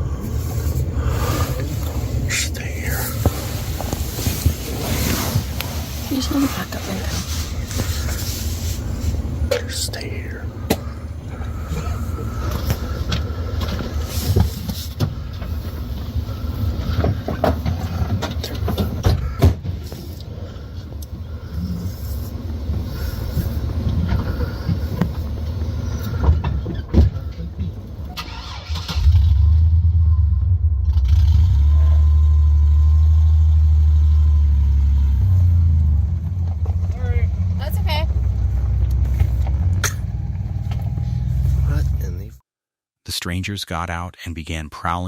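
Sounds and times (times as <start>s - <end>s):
car engine rumbling: 0.0s - 42.4s
loud low engine rumble: 0.0s - 42.4s.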